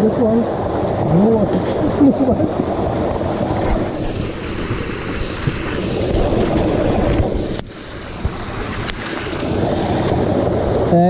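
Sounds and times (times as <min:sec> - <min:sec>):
rushing river water: 0:00.0 - 0:11.0
wind buffeting microphone: 0:00.0 - 0:11.0.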